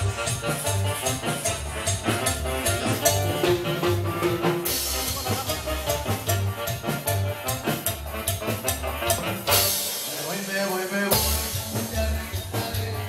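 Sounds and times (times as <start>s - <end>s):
latin dance band playing: 0.0s - 13.0s.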